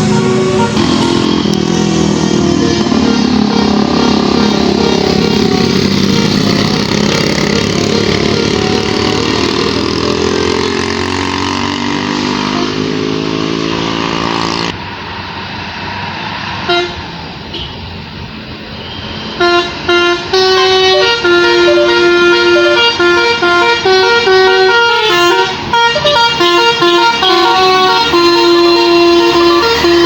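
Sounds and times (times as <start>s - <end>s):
bus diesel engine running: 0.0s - 30.0s
traffic noise: 0.0s - 30.0s.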